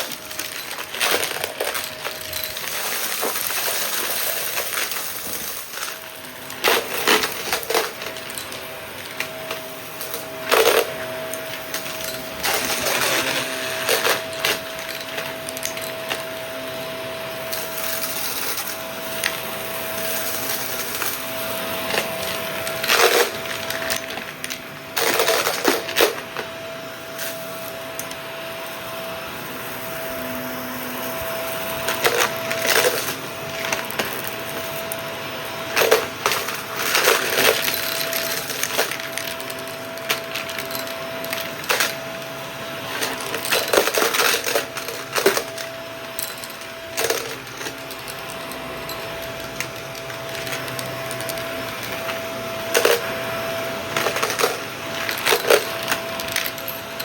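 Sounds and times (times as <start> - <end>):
vacuum crunching and rattling debris: 0.0 - 26.5, 30.9 - 57.0
vacuum cleaner whine: 0.0 - 57.0.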